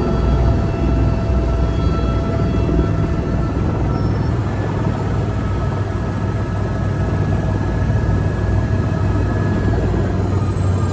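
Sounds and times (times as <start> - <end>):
helicopter low drone: 0.0 - 10.9.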